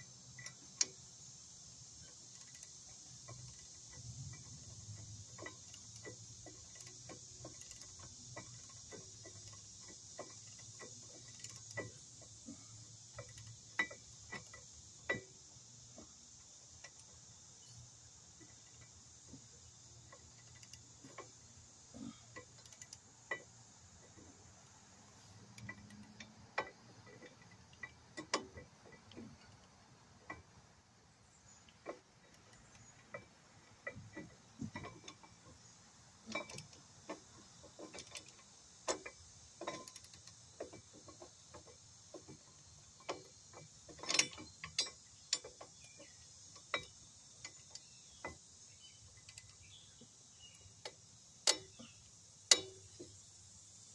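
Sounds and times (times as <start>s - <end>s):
steady high hiss: 0.0s - 53.9s.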